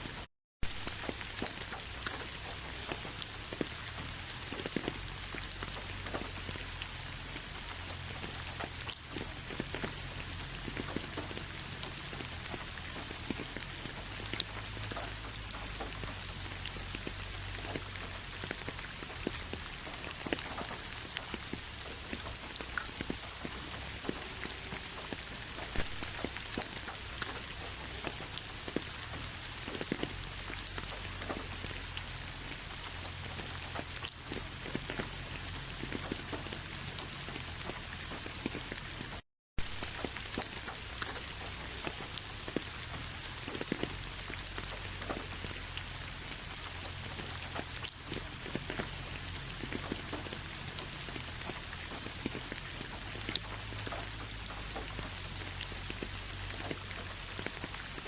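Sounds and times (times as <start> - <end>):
raindrops ticking: 0.0 - 58.0
steady rain hiss: 0.0 - 58.0.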